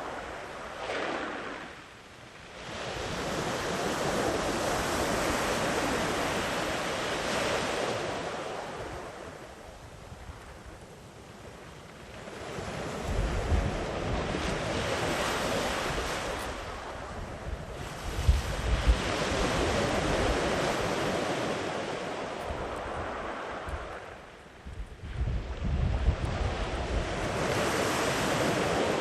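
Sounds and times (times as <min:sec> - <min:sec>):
sea waves breaking on beach: 0:00.0 - 0:29.0.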